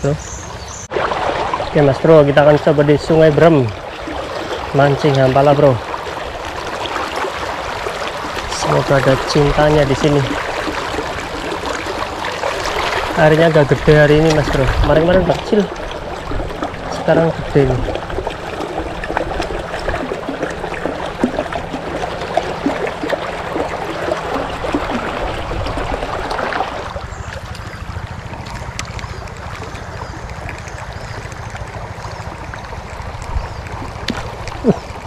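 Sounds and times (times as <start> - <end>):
river babbling over stones: 0.9 - 35.0.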